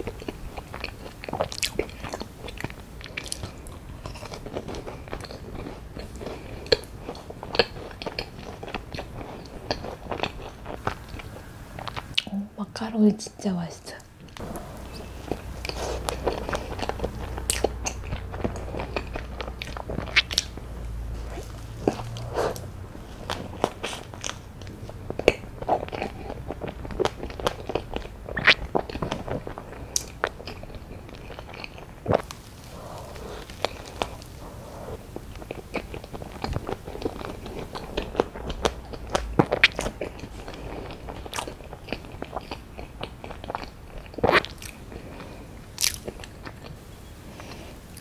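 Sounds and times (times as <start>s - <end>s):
chewing with crisp crunches: 0.0s - 12.3s, 14.2s - 48.0s.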